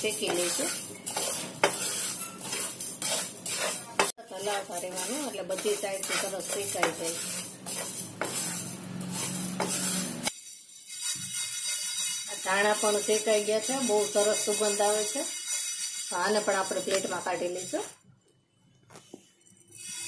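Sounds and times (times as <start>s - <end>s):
spatula stirring seeds in pan: 0.0s - 18.0s.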